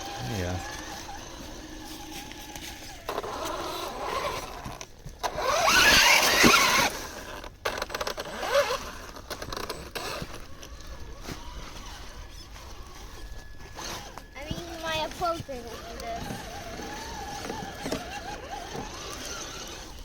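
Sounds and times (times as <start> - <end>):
toy truck electric motor whining: 0.0 - 20.0.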